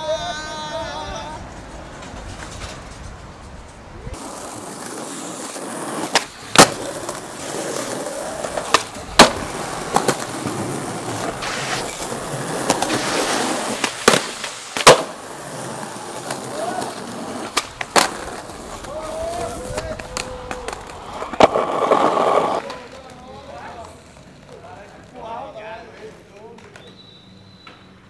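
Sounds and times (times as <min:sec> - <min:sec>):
skateboard wheels rolling on pavement: 0:00.0 - 0:28.0
skateboard clacks: 0:01.2 - 0:28.0.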